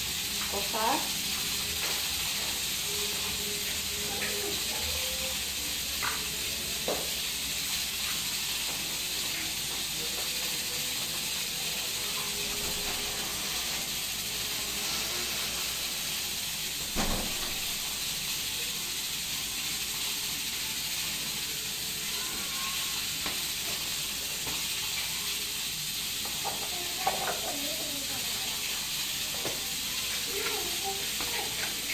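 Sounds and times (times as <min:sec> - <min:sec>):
steady hiss: 0:00.0 - 0:31.9.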